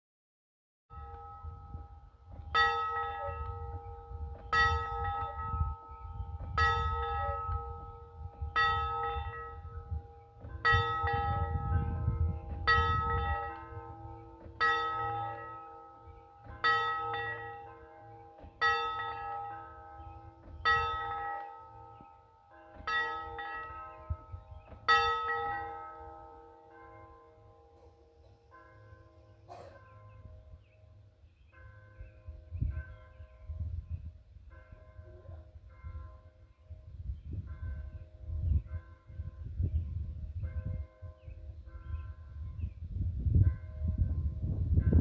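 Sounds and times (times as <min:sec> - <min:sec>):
tower bells tolling: 0:00.9 - 0:45.0.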